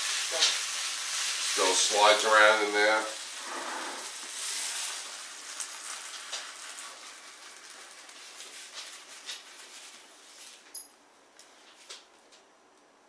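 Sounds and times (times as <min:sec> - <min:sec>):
food sizzling in a frying pan: 0:00.0 - 0:10.5.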